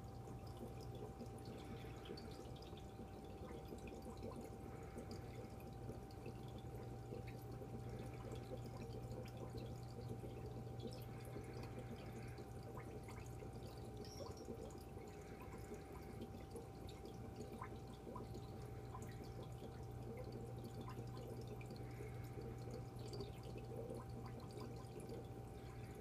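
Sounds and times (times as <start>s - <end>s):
faint steady tone: 0.0s - 26.0s
water trickling and dripping: 0.0s - 26.0s.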